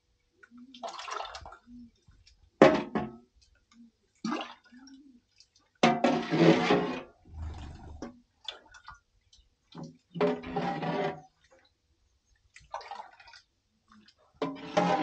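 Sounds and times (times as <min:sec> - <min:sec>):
water splashing and sloshing: 0:00.4 - 0:02.9, 0:03.6 - 0:15.0.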